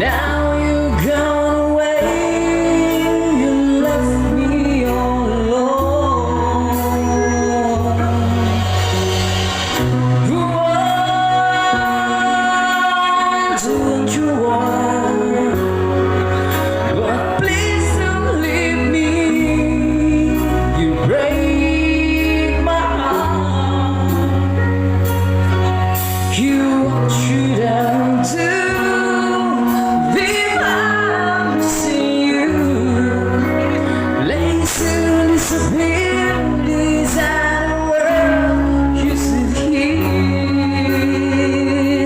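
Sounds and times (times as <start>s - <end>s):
band playing: 0.0s - 42.0s
bass line: 0.0s - 42.0s
person singing: 0.0s - 42.0s.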